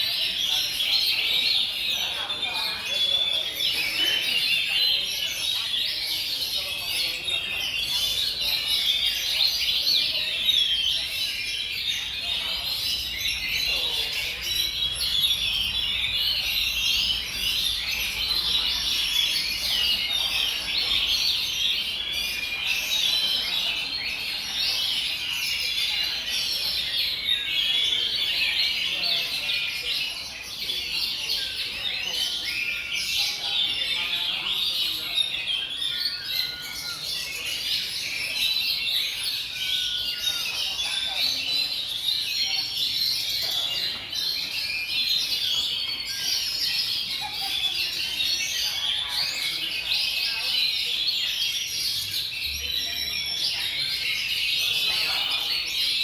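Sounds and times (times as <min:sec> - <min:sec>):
birds singing in chorus: 0:00.0 - 0:56.0.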